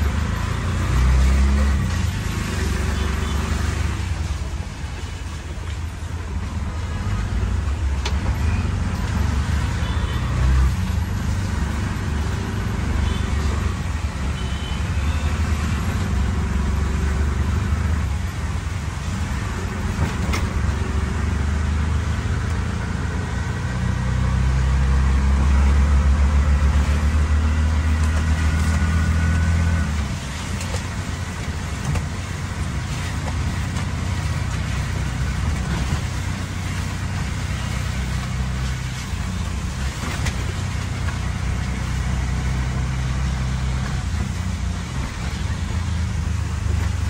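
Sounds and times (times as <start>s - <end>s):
heavy rain on wet road: 0.0s - 47.0s.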